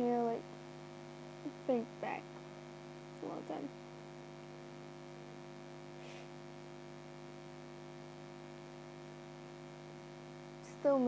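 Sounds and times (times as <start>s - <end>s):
background hiss: 0.0s - 11.0s
electrical hum: 0.0s - 11.0s.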